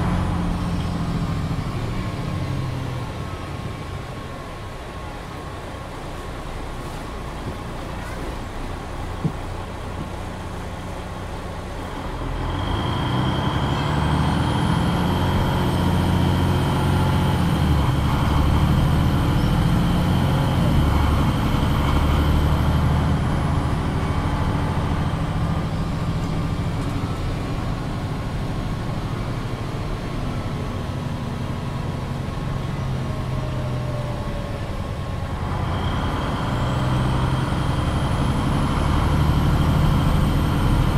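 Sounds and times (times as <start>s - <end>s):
bus diesel engine: 0.0s - 40.9s.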